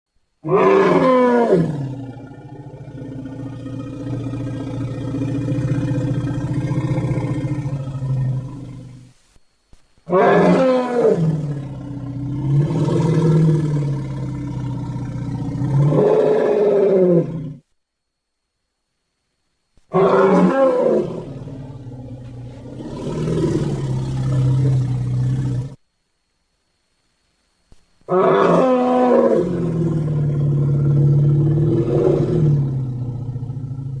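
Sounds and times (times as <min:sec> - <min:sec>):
dinosaur growling roar: 0:00.4 - 0:09.0, 0:10.1 - 0:17.6, 0:19.9 - 0:25.8, 0:28.1 - 0:34.0.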